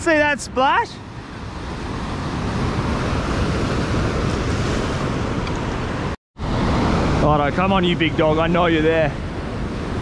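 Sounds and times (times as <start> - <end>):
ocean surf breaking on rocks: 0.0 - 10.0.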